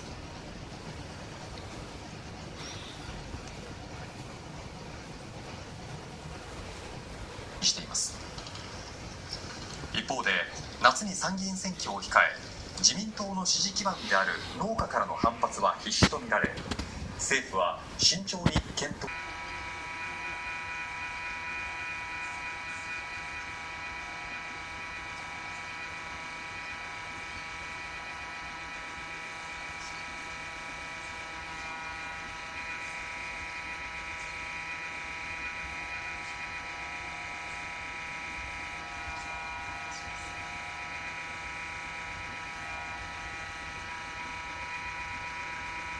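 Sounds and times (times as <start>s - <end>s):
steady hum with high tones: 0.0s - 45.9s.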